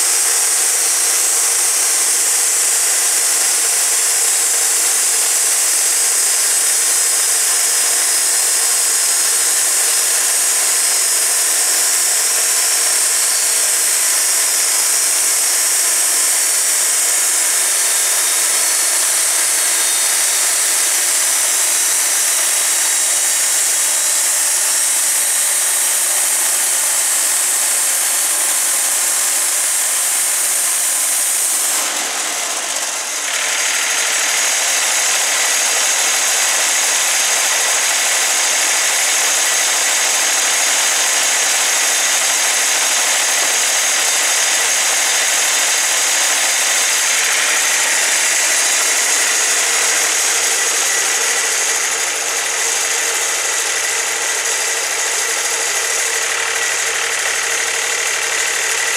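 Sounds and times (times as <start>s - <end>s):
band sawmill sawing log: 0.0s - 58.9s.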